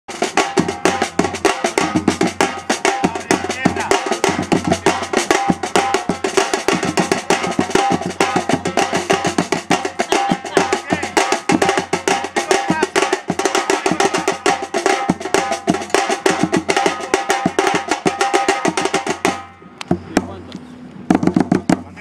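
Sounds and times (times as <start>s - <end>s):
bass drums: 0.1s - 20.4s, 21.0s - 22.0s
snare drums: 0.1s - 20.4s, 21.1s - 22.0s.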